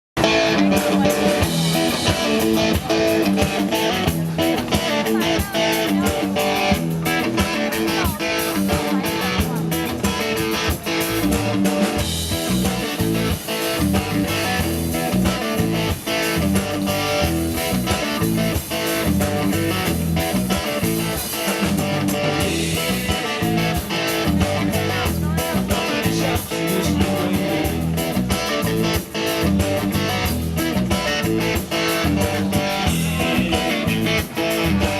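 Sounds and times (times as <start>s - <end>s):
drum hits: 0.2s - 34.9s
rock band playing: 0.2s - 34.9s.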